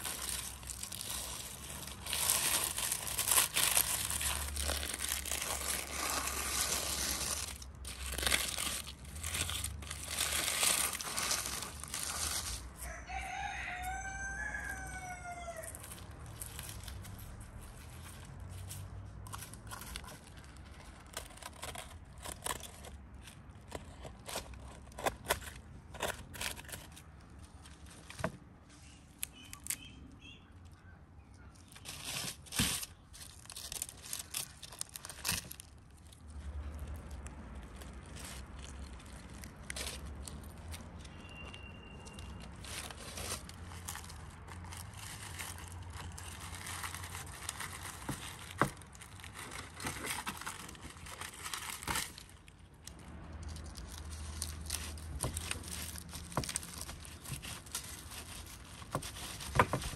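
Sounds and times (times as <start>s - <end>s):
foil crinkling: 0.0s - 29.9s, 31.5s - 59.9s.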